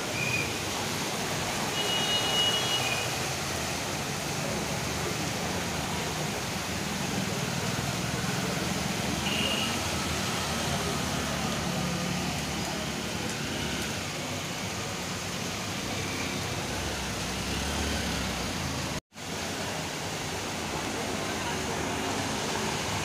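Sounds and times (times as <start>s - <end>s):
rain on flooded street: 0.0s - 23.0s
vehicles driving through water: 0.0s - 23.0s.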